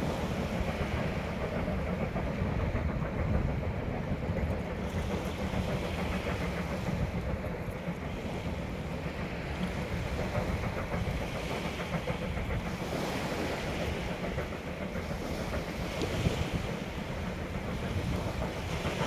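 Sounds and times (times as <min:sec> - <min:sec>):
distant steam train rumble: 0:00.0 - 0:19.0.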